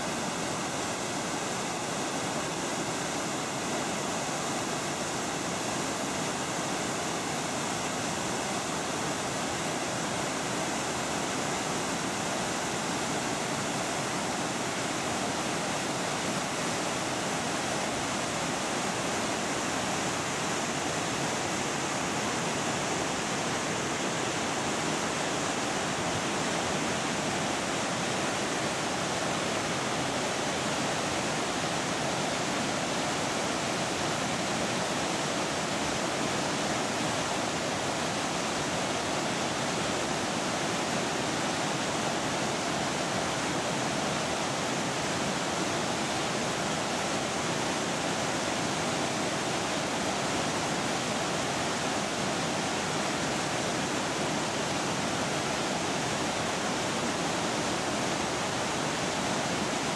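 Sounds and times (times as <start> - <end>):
waterfall crashing into pool: 0.0 - 59.9.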